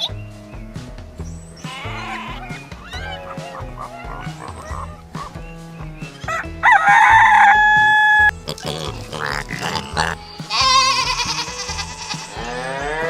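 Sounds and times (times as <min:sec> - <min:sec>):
music with low beat: 0:00.0 - 0:13.0.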